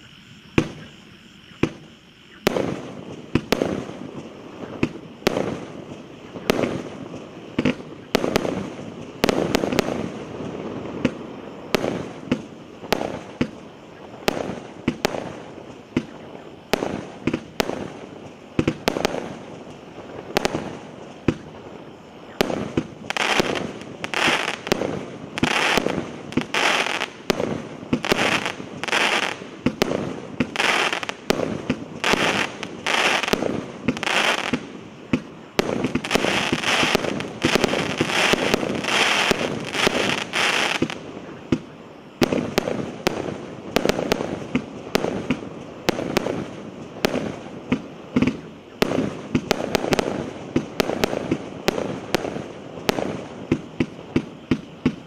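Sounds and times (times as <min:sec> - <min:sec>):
fireworks crackling: 0:00.0 - 0:55.0
fireworks shots and bursts: 0:00.0 - 0:55.0
steady fireworks hiss: 0:00.0 - 0:55.0.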